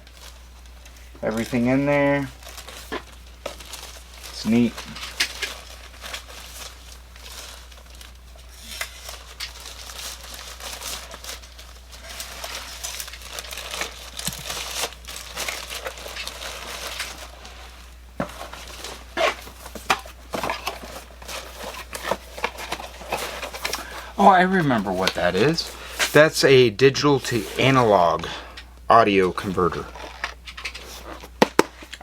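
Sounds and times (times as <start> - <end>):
packaging crinkling: 0.0 - 32.0.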